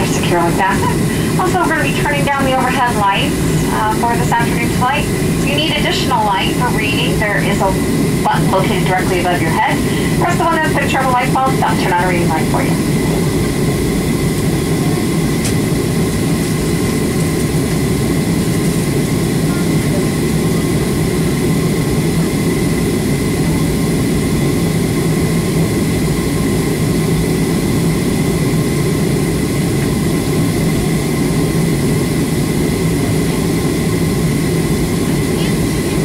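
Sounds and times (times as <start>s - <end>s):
jet engines droning: 0.0s - 36.0s
thin steady whine: 0.0s - 36.0s.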